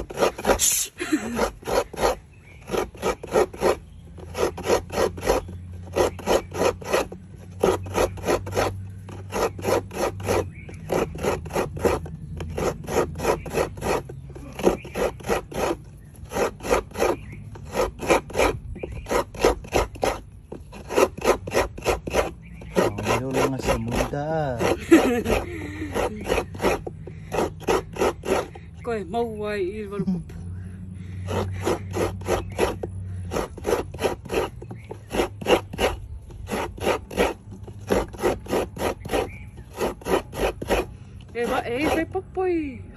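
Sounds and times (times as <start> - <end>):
coconut grating rasps: 0.0 - 28.9, 31.2 - 42.4.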